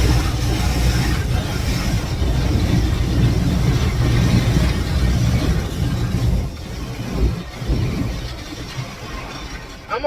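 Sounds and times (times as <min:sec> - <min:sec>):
car wash machinery rumbling: 0:00.0 - 0:10.0.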